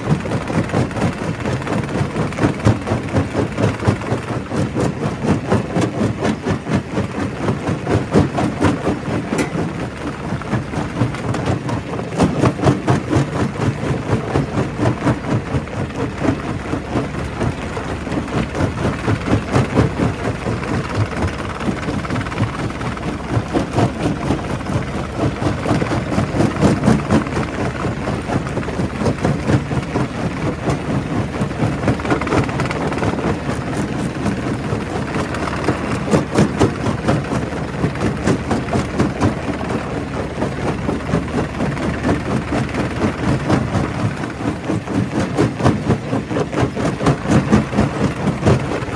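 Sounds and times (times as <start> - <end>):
rock crusher rumbling: 0.0 - 48.9.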